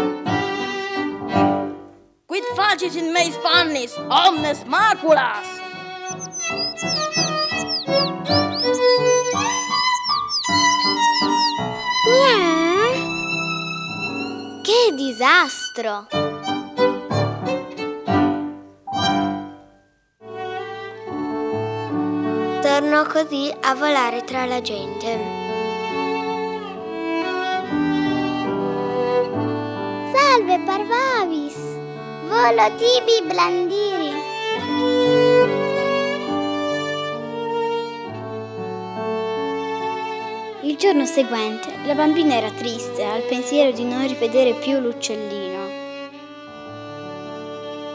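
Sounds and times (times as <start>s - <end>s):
violin background music: 0.0s - 47.9s.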